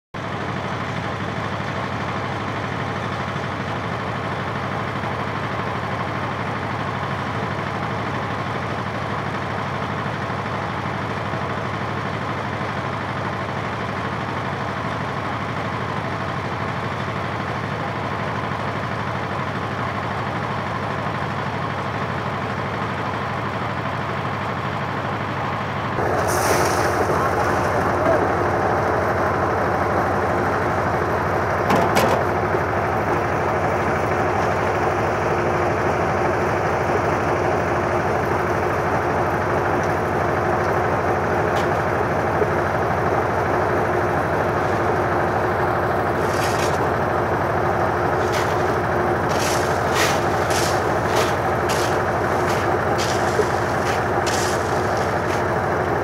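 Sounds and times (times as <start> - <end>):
engine humming steadily: 0.2 - 56.0.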